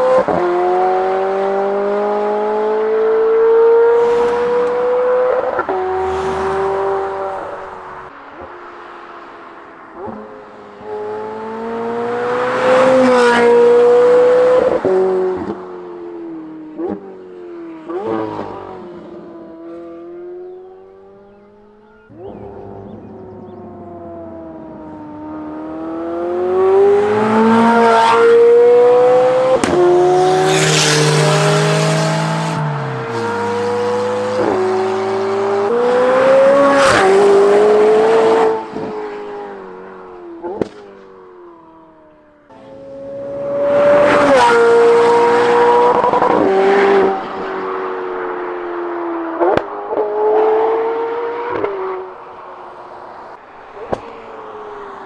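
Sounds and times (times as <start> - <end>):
sports car accelerating hard: 0.0 - 55.0.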